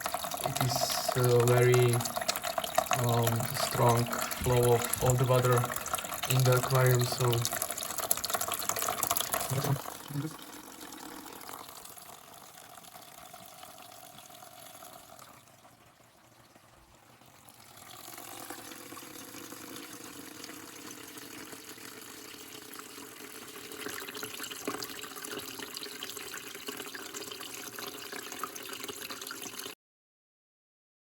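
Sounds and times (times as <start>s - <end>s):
water streaming into bucket: 0.0s - 29.8s.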